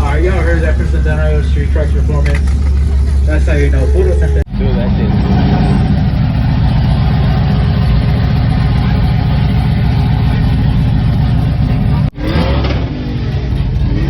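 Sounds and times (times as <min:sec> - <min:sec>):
truck engine running loudly: 0:00.0 - 0:14.0.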